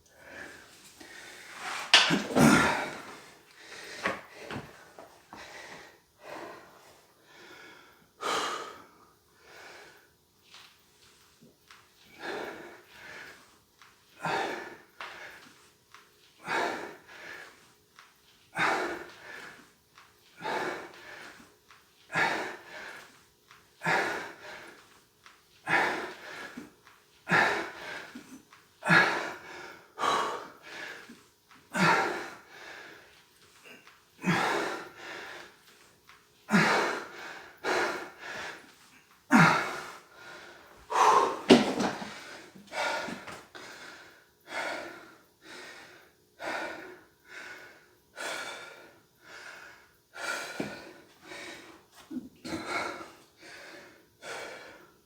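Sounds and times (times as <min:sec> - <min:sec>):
man breathing hard: 0:00.1 - 0:10.2, 0:12.1 - 0:13.5, 0:14.2 - 0:15.7, 0:16.4 - 0:17.7, 0:18.5 - 0:19.7, 0:20.4 - 0:23.2, 0:23.8 - 0:25.0, 0:25.6 - 0:35.8, 0:36.5 - 0:55.0.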